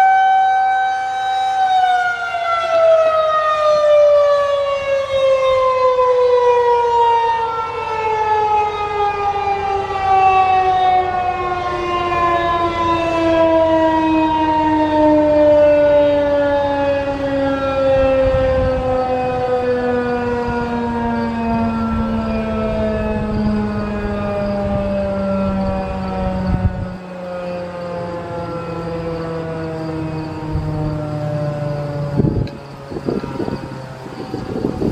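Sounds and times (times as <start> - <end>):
dual-tone warning siren winding down: 0.0 - 34.9.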